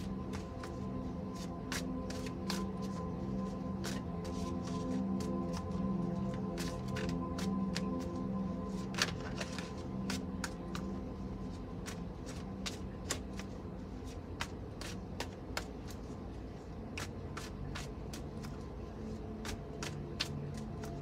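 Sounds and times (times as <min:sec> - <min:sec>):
background music of low tones: 0:00.0 - 0:21.0.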